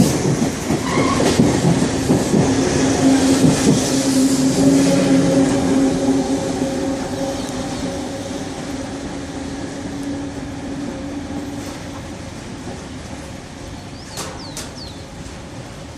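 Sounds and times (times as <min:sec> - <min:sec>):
electric train hum: 0:00.0 - 0:15.9.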